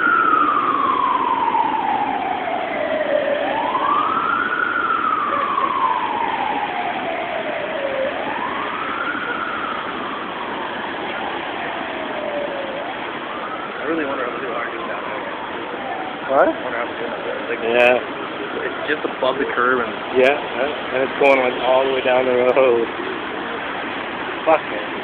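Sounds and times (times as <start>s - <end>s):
emergency siren wailing: 0.0s - 25.0s.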